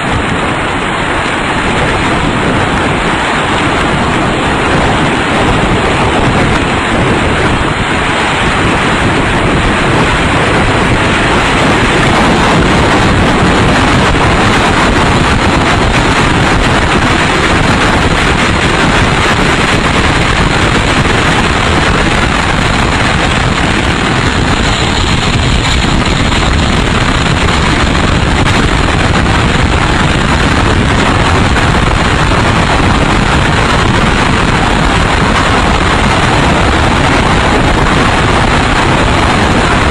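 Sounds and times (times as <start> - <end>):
loud wind rushing: 0.0 - 39.9.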